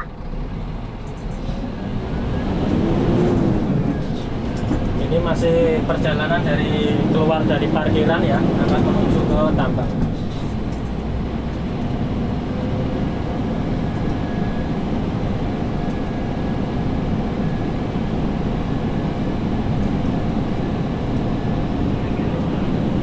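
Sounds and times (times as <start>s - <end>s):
road noise: 0.0s - 23.0s
truck diesel engine: 0.0s - 23.0s.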